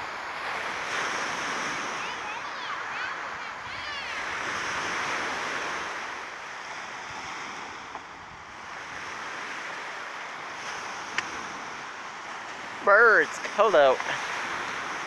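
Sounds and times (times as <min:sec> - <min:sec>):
small waves on pebble shore: 0:00.0 - 0:15.0
wind buffeting microphone: 0:00.0 - 0:15.0.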